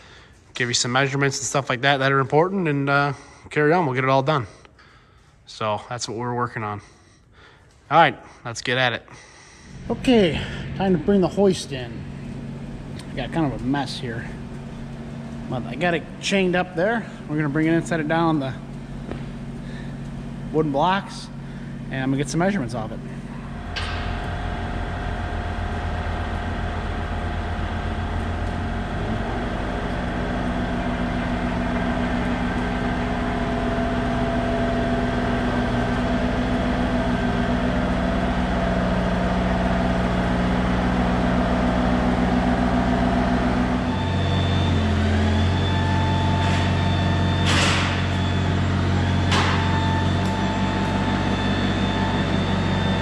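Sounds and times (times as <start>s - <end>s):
excavator diesel engine running: 9.7s - 53.0s.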